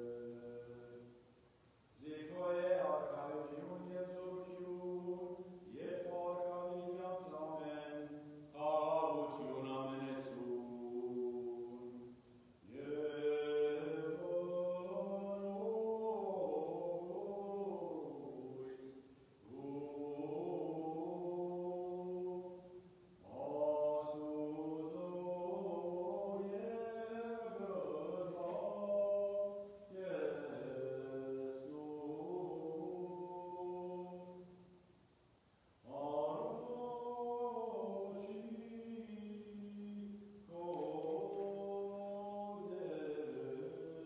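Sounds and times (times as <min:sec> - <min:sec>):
unaccompanied liturgical chant: 0:00.0 - 0:34.9, 0:35.7 - 0:44.0.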